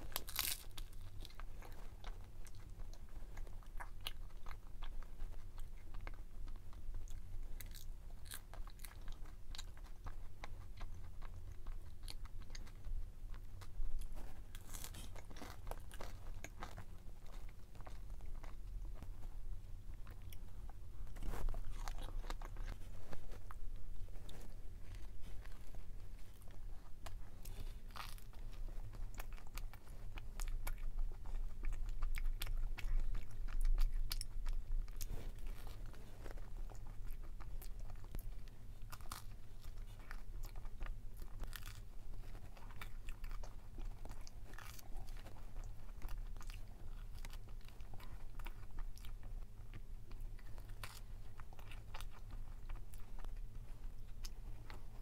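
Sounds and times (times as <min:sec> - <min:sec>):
person crunching crisp food: 0:00.0 - 0:18.9, 0:21.1 - 0:55.0
steady low hum: 0:00.0 - 0:55.0.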